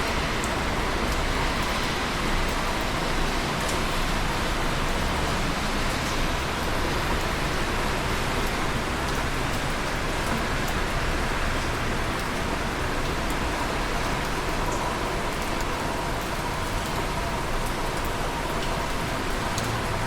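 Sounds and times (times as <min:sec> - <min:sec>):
falling rain: 0:00.0 - 0:20.0
tyres hissing on wet road: 0:00.0 - 0:20.0.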